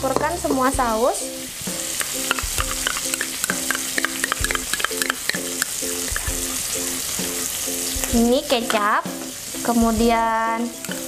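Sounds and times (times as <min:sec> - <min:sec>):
onions sizzling in a wok: 0:00.0 - 0:11.0.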